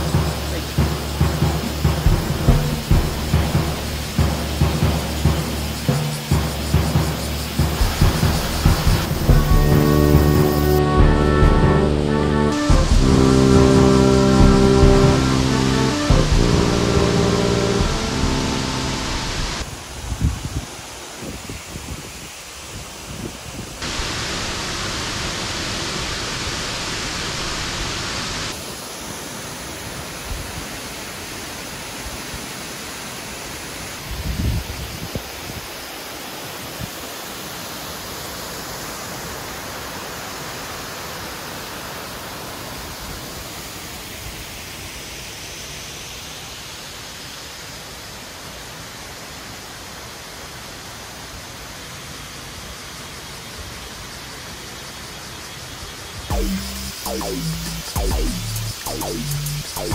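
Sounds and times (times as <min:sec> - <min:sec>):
river and waterfall rushing: 0:00.0 - 0:54.8.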